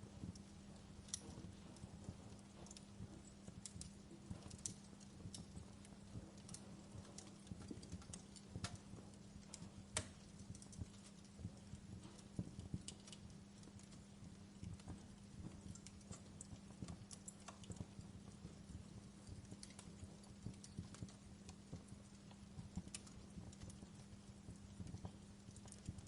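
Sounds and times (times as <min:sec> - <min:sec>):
faint low hum: 0:00.0 - 0:26.0
wood fire crackling: 0:00.0 - 0:26.0.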